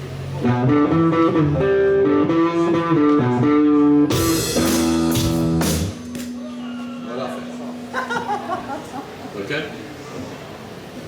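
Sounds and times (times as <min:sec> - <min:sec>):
electric guitar melody: 0:00.0 - 0:09.2.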